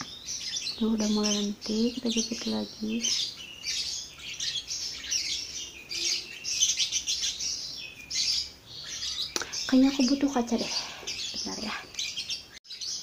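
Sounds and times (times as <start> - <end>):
small birds chirping and twittering: 0.0 - 13.0.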